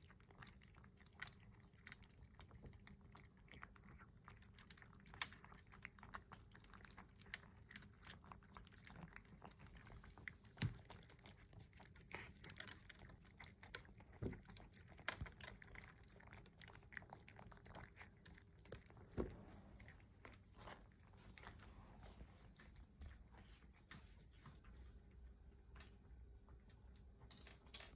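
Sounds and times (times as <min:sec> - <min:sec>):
cats chewing: 0:00.0 - 0:27.9.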